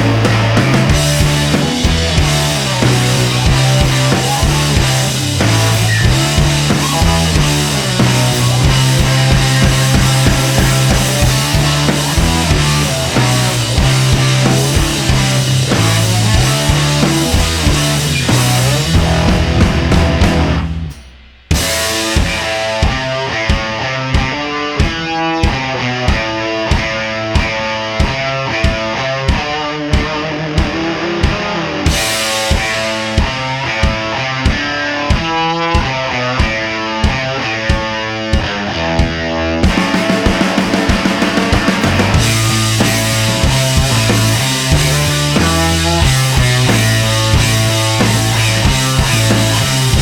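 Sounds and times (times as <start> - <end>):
rock music with guitar and drums: 0.0 - 50.0.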